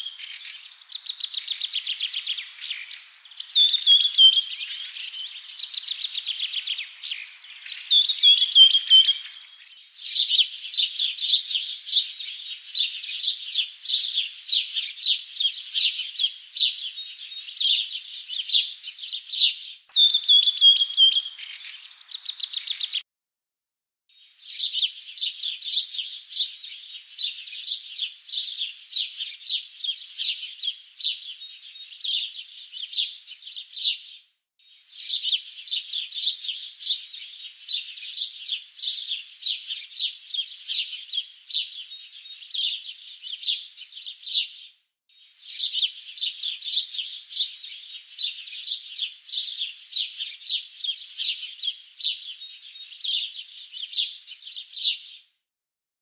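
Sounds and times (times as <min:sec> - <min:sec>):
small birds chirping: 0:00.0 - 0:23.0, 0:24.1 - 0:55.3.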